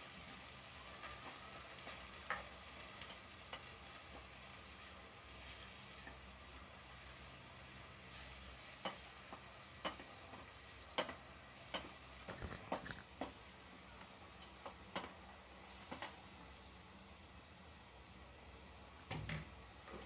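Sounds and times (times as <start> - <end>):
faint sizzle of meat: 0.0 - 20.0.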